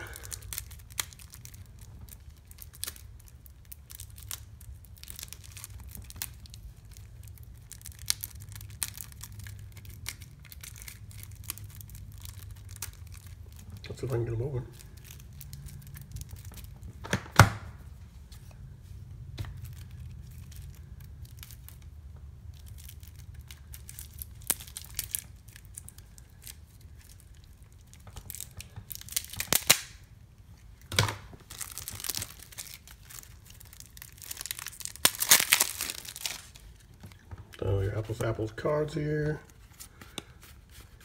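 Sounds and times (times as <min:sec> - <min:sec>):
plastic wrapping crackling: 0:00.0 - 0:41.0.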